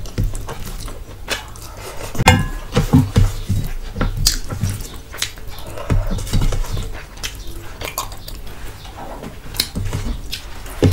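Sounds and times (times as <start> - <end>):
chewing and wet mouth noises: 0.0 - 2.2, 3.6 - 10.9.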